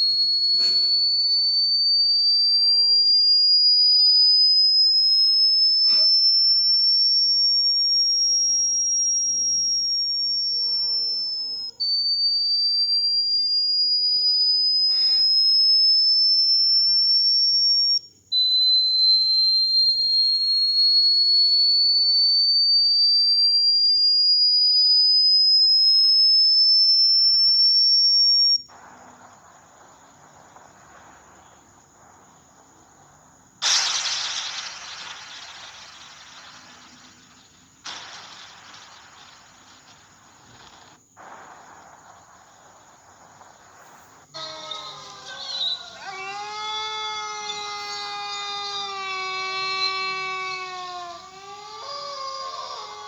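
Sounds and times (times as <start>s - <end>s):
hiss: 0.0s - 18.5s, 28.6s - 53.0s
high-pitched rising whistle tone: 0.0s - 53.0s.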